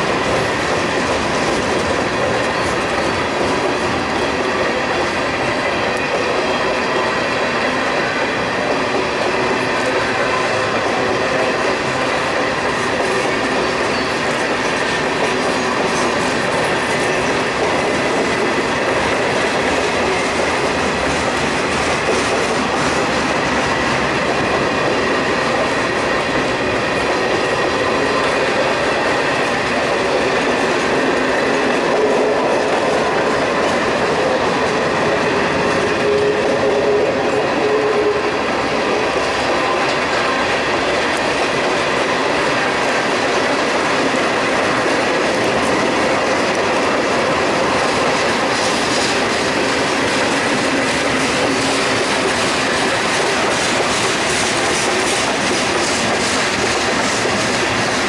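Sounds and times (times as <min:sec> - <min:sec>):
steel train wheels on rail: 0:00.0 - 0:58.0.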